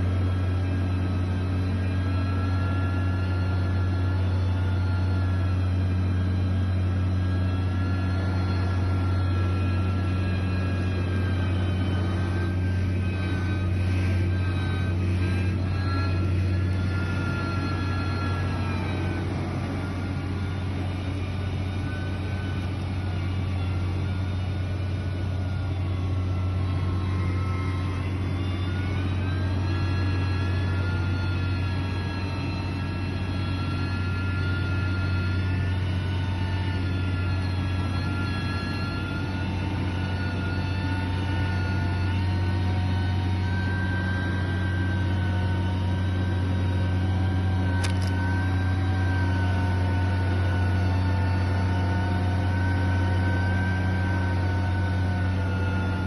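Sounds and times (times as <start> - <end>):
diesel engine hum and whine: 0.0 - 56.0.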